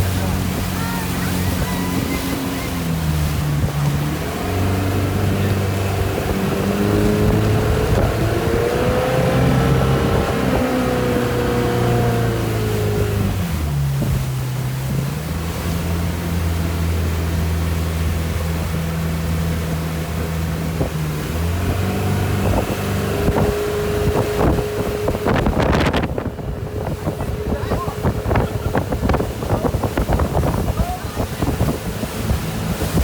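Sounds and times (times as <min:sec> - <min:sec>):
motorboat engine humming: 0:00.0 - 0:33.0.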